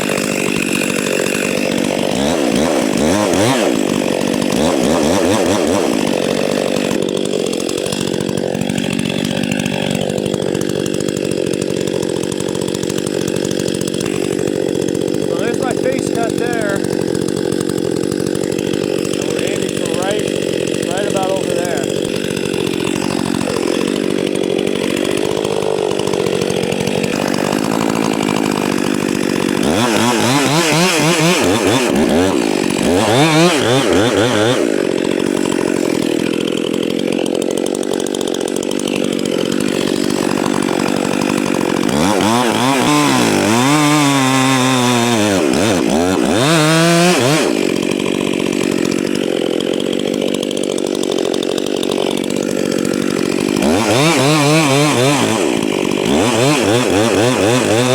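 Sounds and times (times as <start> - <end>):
chainsaw sawing into tree trunk: 0.0 - 57.9.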